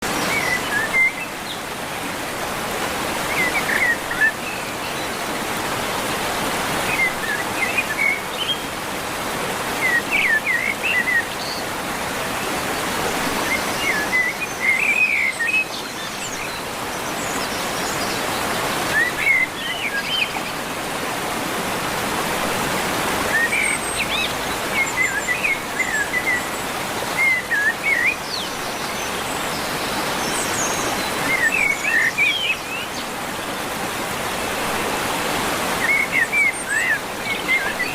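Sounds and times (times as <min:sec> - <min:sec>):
songbirds chirping: 0:00.0 - 0:37.9
waterfall rushing: 0:00.0 - 0:37.9.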